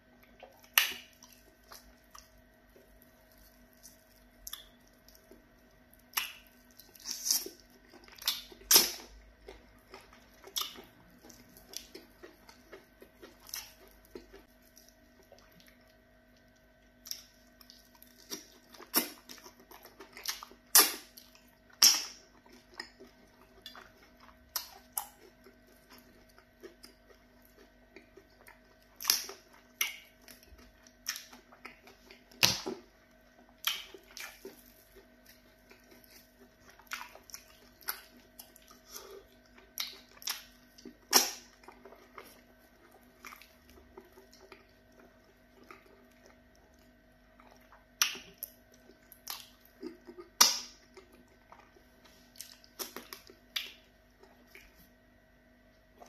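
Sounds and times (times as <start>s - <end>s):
faint steady hum: 0.0s - 56.0s
wet eating squelches: 0.1s - 55.0s.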